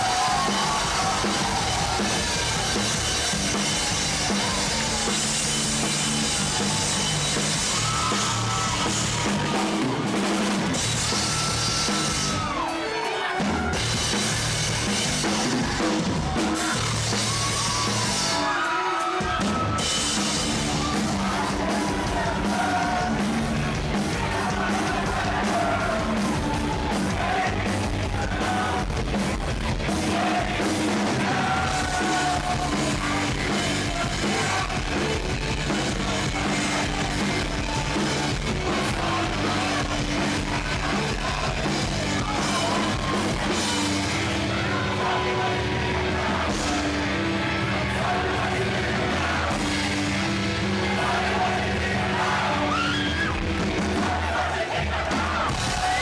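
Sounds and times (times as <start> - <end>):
shouted and sung vocals: 0.0 - 10.1, 10.7 - 56.0
bass guitar: 0.0 - 12.7, 13.4 - 18.6, 19.2 - 56.0
drum kit: 0.0 - 56.0.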